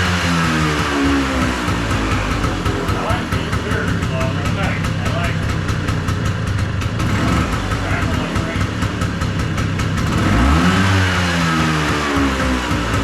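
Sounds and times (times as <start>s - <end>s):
scooter engine idling and revving: 0.0s - 13.0s.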